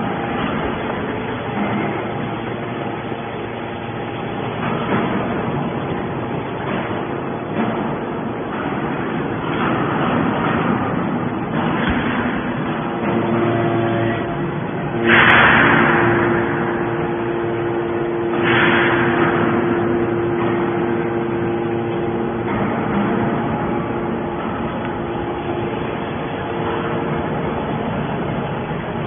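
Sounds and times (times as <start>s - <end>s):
hydraulic pump humming: 0.0s - 29.0s.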